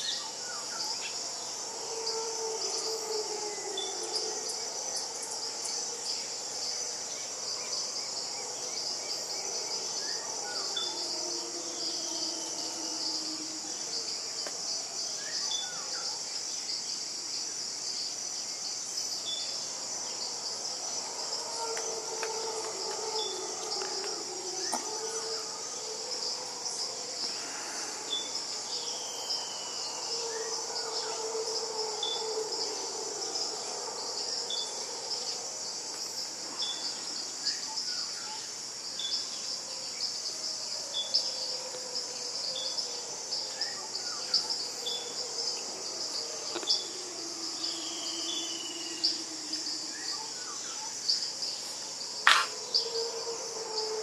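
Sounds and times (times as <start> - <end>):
distant howler monkeys howling: 0.0 - 54.0
high insect chorus: 0.0 - 54.0.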